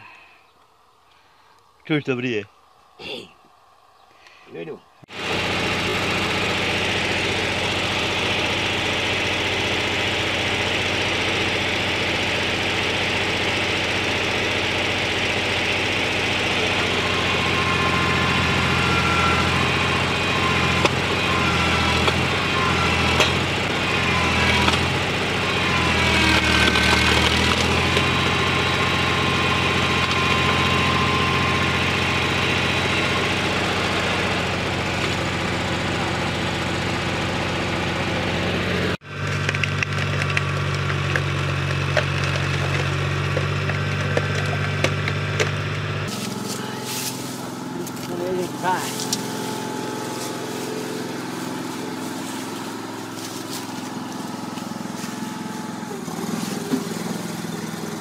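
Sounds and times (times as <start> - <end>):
log splitter engine running: 5.1 - 58.0.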